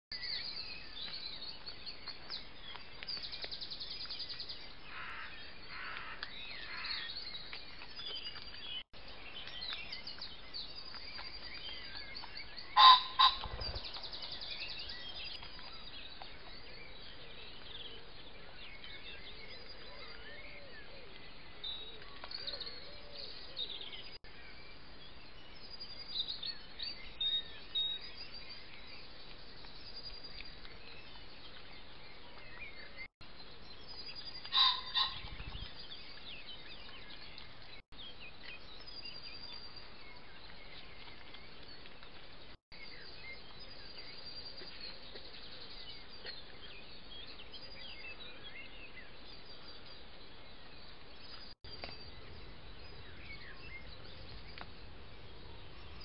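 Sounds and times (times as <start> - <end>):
birds singing and chirping: 0.1 - 56.0.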